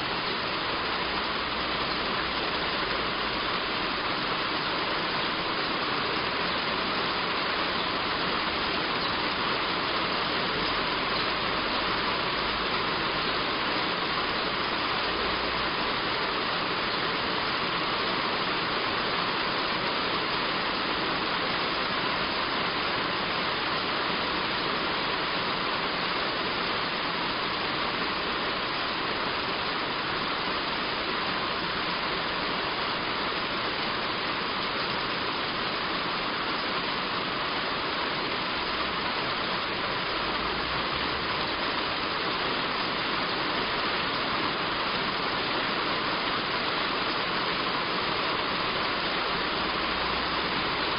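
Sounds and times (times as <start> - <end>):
heavy rain on a roof: 0.0 - 50.9.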